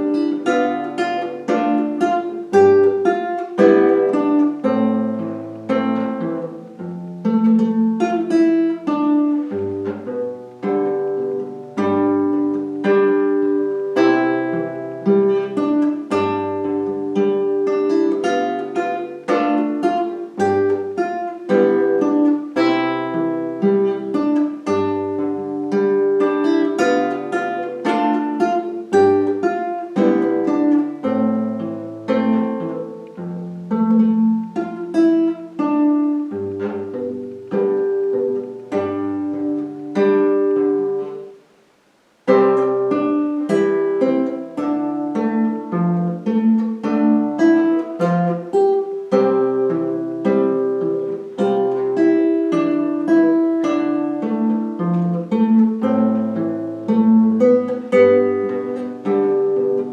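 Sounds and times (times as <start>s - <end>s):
fingerstyle acoustic guitar: 0.0s - 59.9s.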